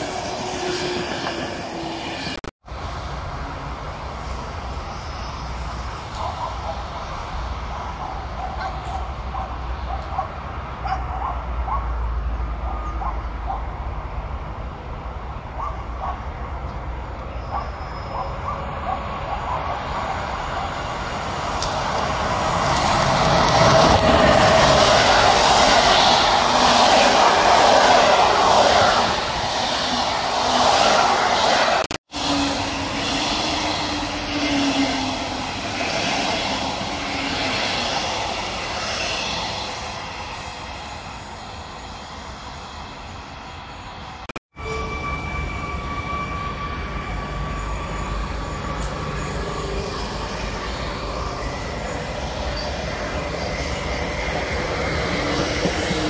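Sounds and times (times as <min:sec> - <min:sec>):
train wheels rumbling on rails: 0:00.0 - 0:44.4, 0:45.1 - 0:56.0
passing train low hum: 0:00.0 - 0:56.0.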